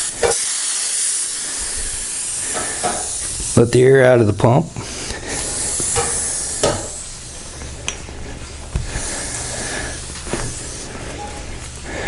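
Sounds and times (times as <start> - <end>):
air hissing from valve: 0.0 - 4.0, 4.8 - 7.9, 8.8 - 12.0.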